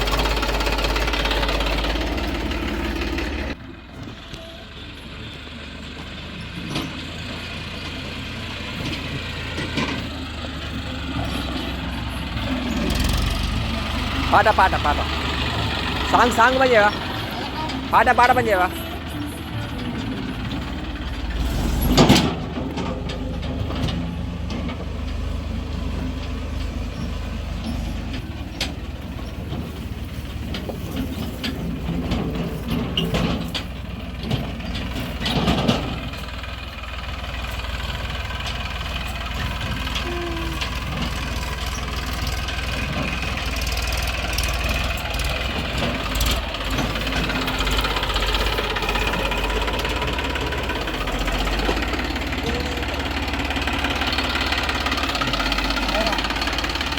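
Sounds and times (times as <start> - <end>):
diesel engines running: 0.0 - 56.9.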